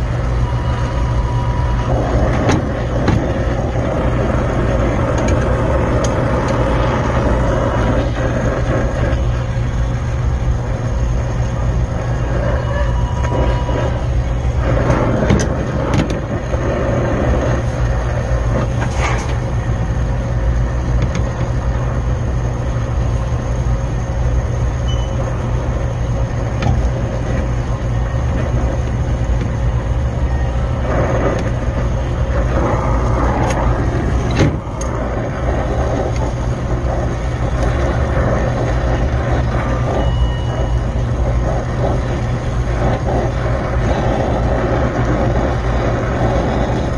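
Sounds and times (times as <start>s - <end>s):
torch flame rumbling and hissing: 0.0s - 46.9s.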